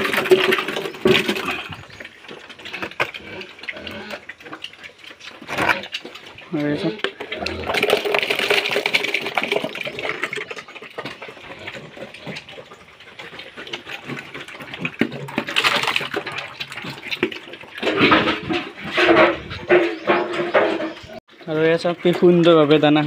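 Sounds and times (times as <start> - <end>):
pigs slurping and chewing: 0.0 - 23.0.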